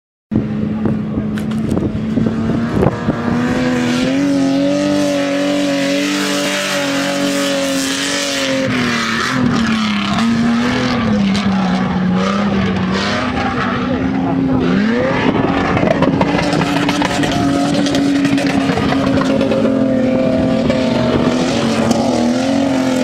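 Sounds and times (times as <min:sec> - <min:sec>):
engine at high revs: 0:00.4 - 0:23.0.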